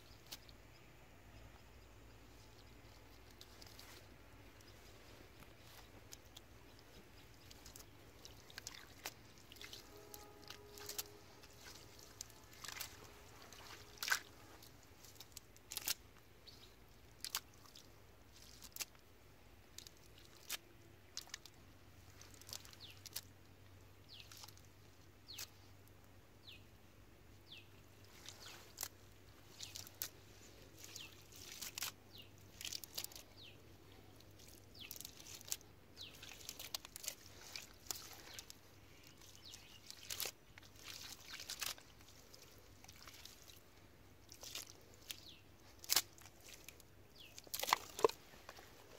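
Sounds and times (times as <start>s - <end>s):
wet mud squelches and clicks: 0.0s - 0.7s, 2.3s - 25.9s, 28.0s - 48.9s.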